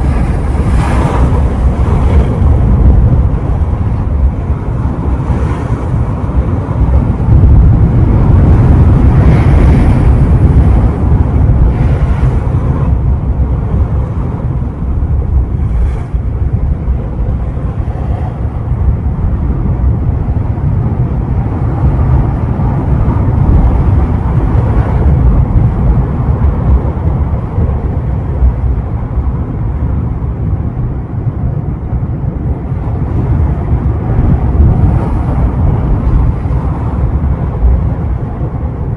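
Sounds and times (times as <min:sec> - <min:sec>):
ocean surf washing ashore: 0:00.0 - 0:38.9
wind buffeting microphone: 0:00.0 - 0:38.9.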